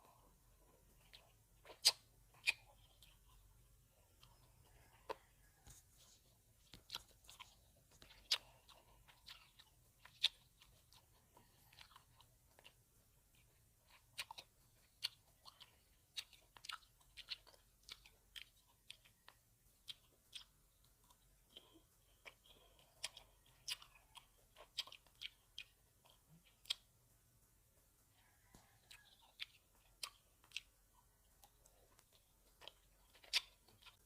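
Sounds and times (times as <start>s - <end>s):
grapes being bitten and chewed: 0.0s - 34.0s.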